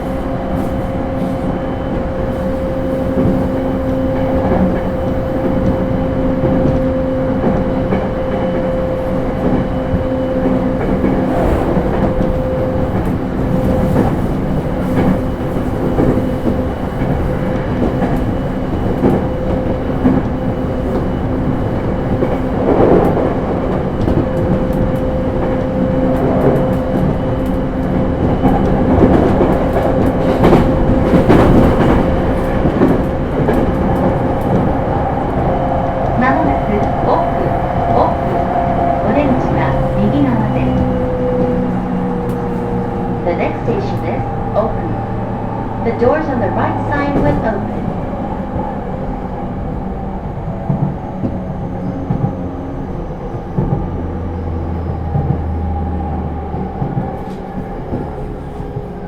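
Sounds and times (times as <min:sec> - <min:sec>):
train interior rumble and hum: 0:00.0 - 0:59.0.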